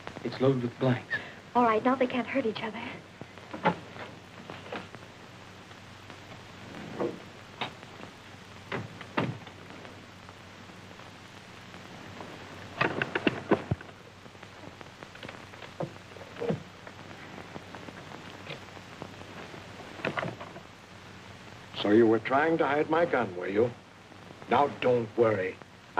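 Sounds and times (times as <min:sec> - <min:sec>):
film soundtrack hiss: 0:00.0 - 0:25.9.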